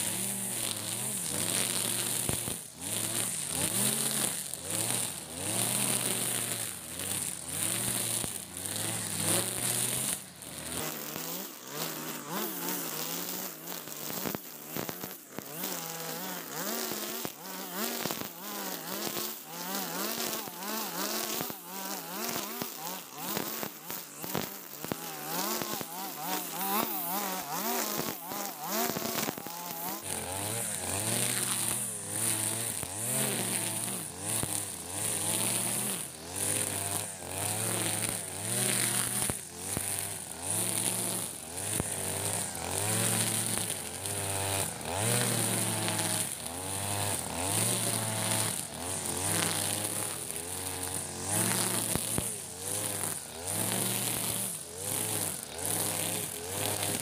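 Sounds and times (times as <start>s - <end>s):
brush cutter engine running: 0.0s - 57.0s
trimmer line cutting grass: 0.0s - 57.0s.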